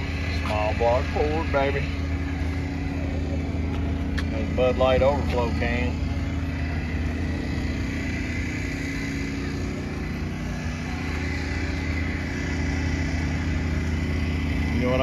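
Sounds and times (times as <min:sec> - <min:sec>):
faint steady whine: 0:00.0 - 0:15.0
vehicle engine humming: 0:00.0 - 0:15.0.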